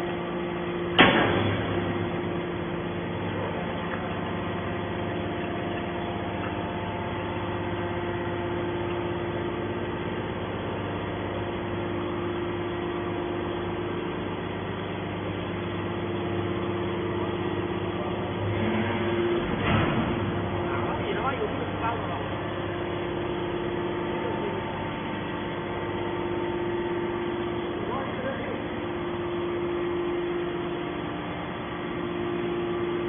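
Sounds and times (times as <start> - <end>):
hydraulic power unit humming: 0.0 - 33.0.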